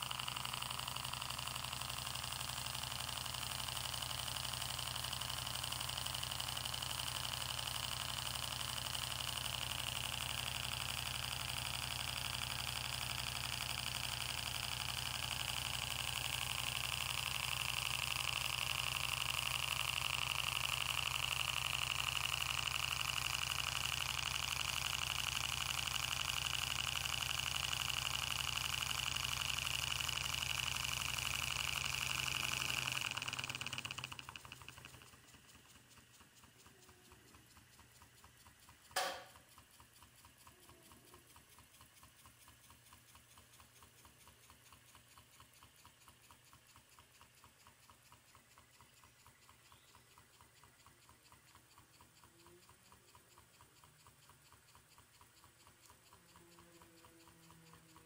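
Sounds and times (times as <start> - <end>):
steam engine running: 0.0 - 58.0.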